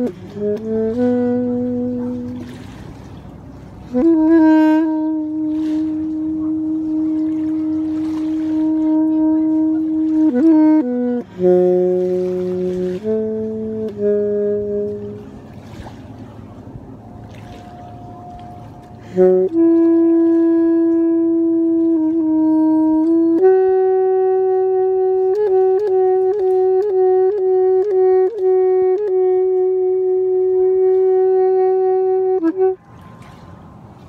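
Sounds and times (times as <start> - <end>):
saxophone long held notes: 0.0 - 33.6.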